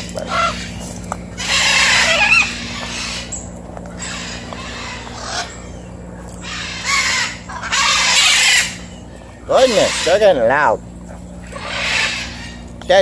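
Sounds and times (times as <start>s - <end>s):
birds screeching: 0.0s - 13.0s.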